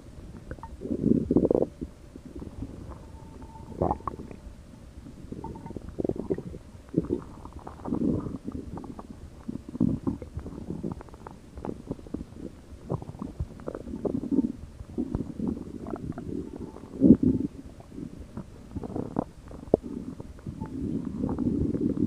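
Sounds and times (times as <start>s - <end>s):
stomach growling and gurgling: 0.0s - 22.0s.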